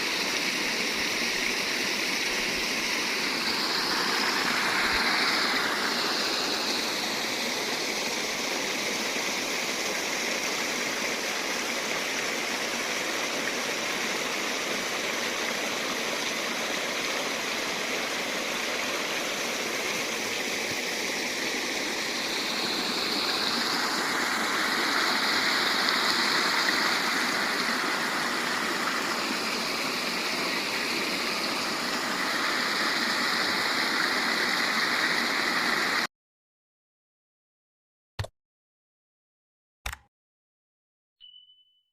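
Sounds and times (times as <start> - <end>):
rainwater runoff rushing: 0.0 - 36.1.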